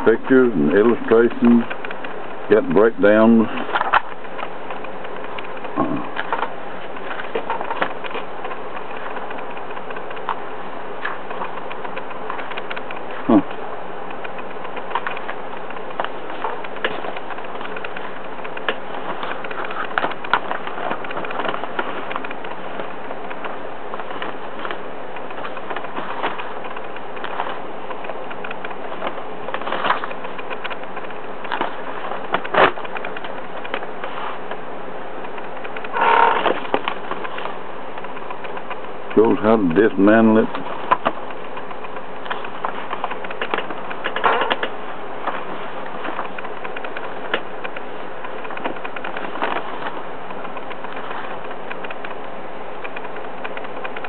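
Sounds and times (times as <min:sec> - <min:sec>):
booklet pages turning: 0:00.0 - 0:54.0
steady background hiss: 0:00.0 - 0:54.0.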